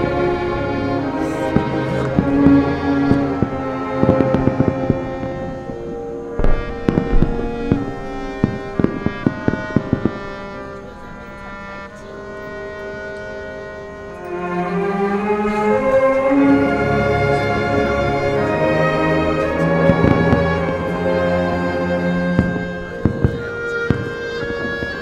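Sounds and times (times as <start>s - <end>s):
fireworks banging: 0.0s - 14.4s, 15.2s - 25.0s
orchestral music: 0.0s - 25.0s.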